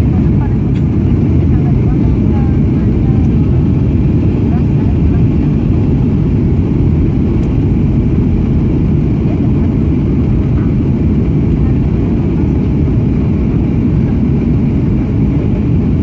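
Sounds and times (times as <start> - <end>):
airplane engines rumbling: 0.0 - 16.0.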